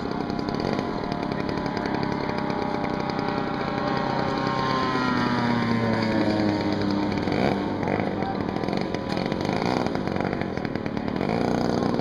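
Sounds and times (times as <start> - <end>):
model plane engine buzzing: 0.0 - 12.0.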